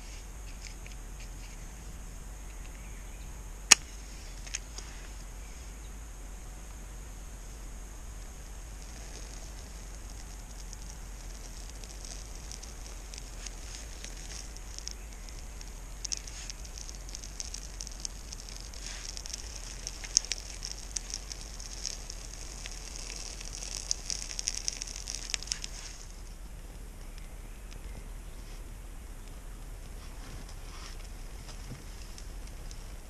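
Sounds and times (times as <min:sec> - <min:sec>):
fire crackling and hissing: 0:00.0 - 0:33.0
fire popping: 0:03.6 - 0:33.0.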